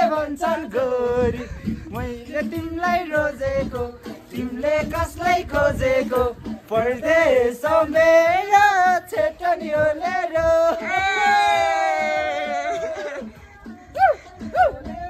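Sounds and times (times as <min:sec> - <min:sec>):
voices singing unaccompanied: 0:00.0 - 0:15.0.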